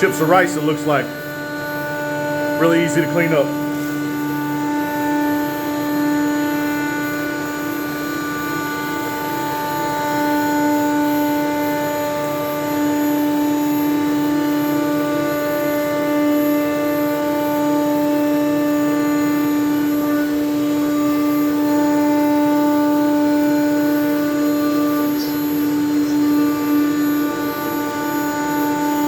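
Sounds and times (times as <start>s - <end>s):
router spindle whine cutting plastic: 0.0s - 29.0s.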